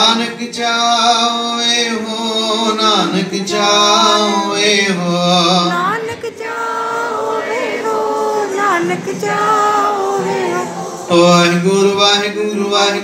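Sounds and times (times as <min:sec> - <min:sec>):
group of voices singing together: 0:00.0 - 0:13.0.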